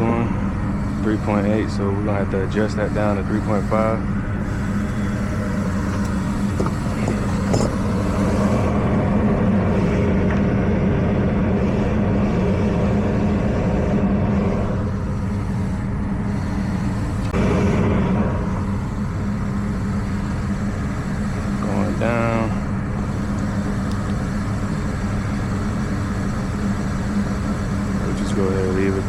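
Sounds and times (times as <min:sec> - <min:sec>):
draft inducer motor humming: 0:00.0 - 0:29.0
gas burners firing: 0:00.0 - 0:29.0.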